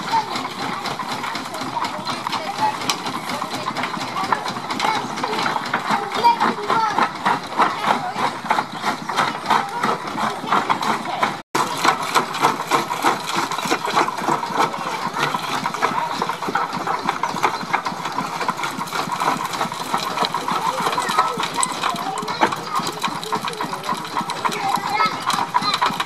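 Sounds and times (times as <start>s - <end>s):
stone crusher crunching bricks: 0.0s - 26.0s.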